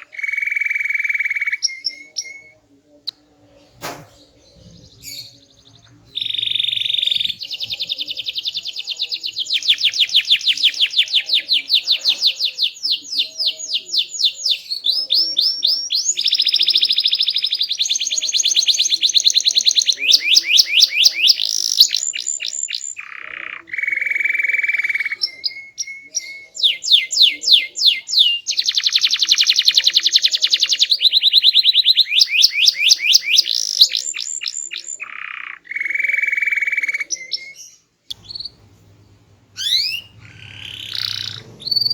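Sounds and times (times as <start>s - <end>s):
canary singing trills: 0.0s - 3.2s, 4.2s - 41.9s.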